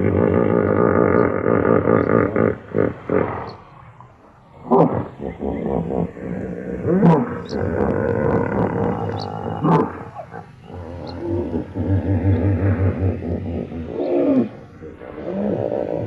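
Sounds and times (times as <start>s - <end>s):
hippopotamus calling: 0.0s - 16.0s.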